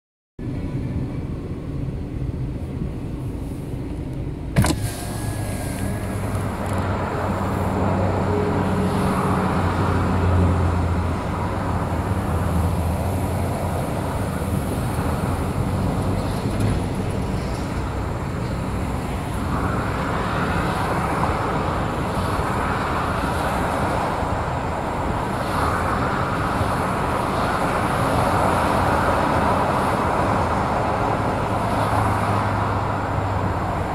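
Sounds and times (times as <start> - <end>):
low engine hum: 0.4 - 33.9
traffic tyre hiss: 2.6 - 33.9.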